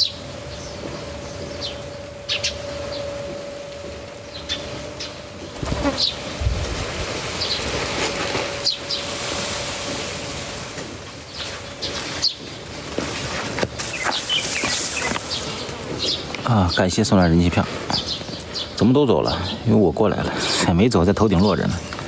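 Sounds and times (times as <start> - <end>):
steady buzzing hum: 0.0 - 19.7
songbirds chirping: 0.0 - 22.0.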